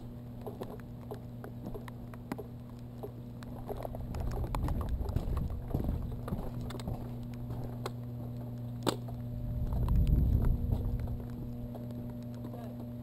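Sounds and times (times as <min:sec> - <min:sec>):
footsteps on wet ground: 0:00.0 - 0:13.0
steady low hum: 0:00.0 - 0:13.0.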